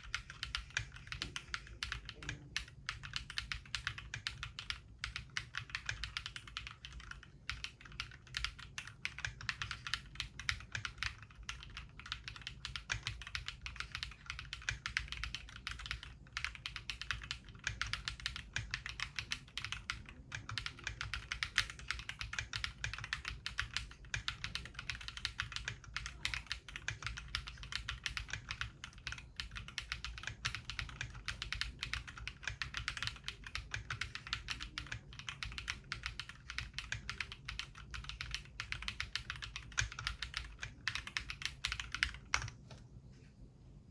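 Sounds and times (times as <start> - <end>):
fast mechanical keyboard typing: 0.0 - 42.8.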